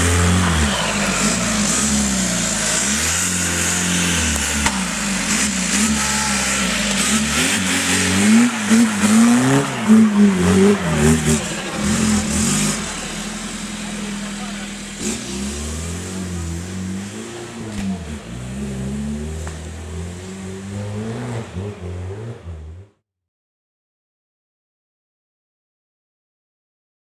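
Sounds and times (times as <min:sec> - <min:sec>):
engine revving: 0:00.0 - 0:23.0.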